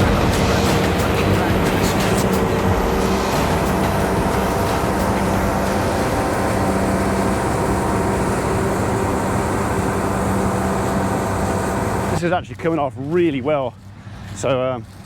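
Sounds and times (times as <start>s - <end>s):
tractor diesel engine drone: 0.0s - 15.0s.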